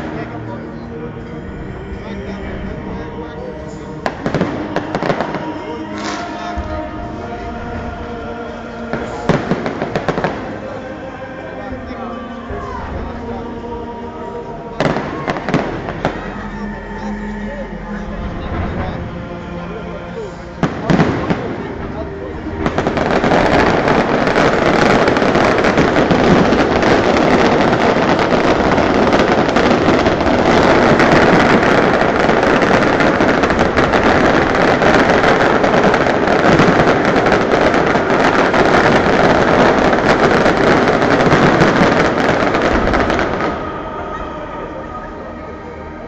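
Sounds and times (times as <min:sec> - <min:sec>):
fireworks crackling: 0:00.0 - 0:45.3.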